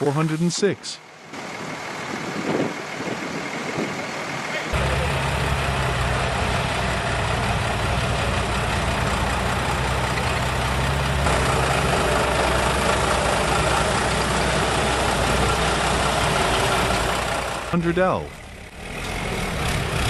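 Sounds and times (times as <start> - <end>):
heavy truck engine idling: 1.0 - 20.0.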